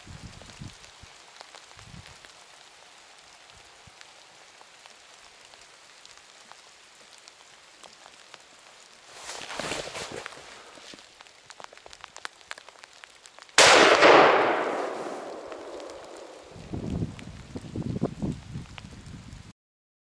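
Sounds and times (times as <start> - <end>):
light rain pattering: 0.0 - 19.5.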